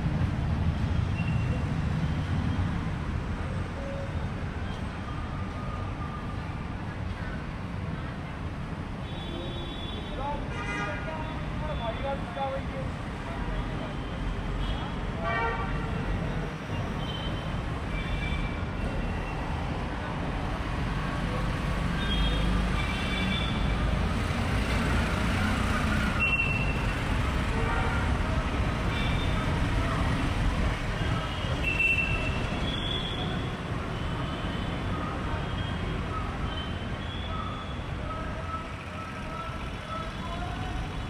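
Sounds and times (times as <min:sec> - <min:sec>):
rumble of passing vehicles: 0:00.0 - 0:41.0.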